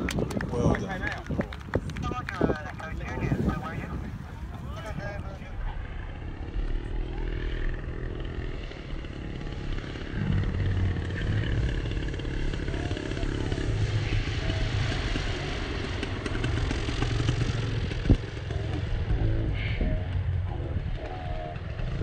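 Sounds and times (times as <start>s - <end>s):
model plane engine at high power: 0.0s - 22.0s.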